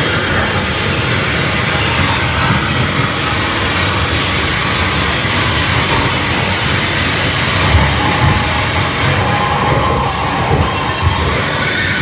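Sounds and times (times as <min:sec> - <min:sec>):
electronic noise music: 0:00.0 - 0:12.0.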